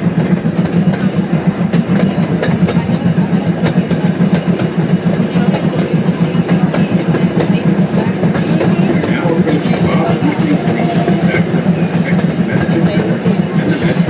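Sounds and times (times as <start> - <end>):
train wheels rumbling on rails: 0.0 - 14.0
sharp clicks and clacks: 0.1 - 14.0.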